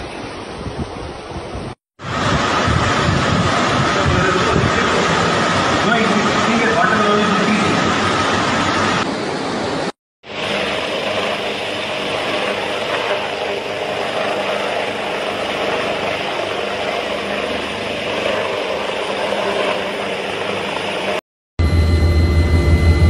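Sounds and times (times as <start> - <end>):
helicopter hovering drone: 2.0 - 23.0.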